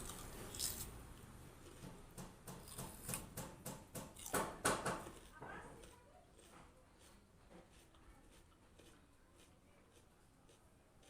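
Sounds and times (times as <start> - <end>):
crunching of raw vegetables chewed: 0.0 - 2.0, 4.1 - 11.0.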